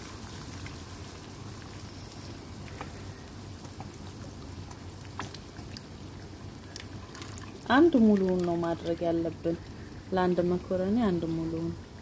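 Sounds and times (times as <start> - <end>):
sauce sizzling in a pan: 0.0 - 12.0.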